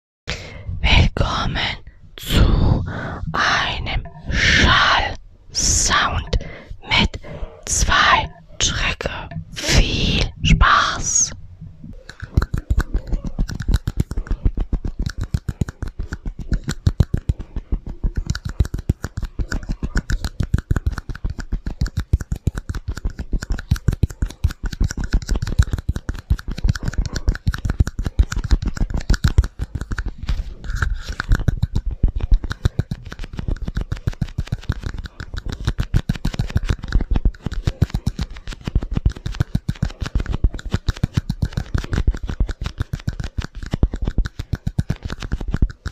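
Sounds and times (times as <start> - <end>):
rapid tapping and scratching: 5.9 - 45.9.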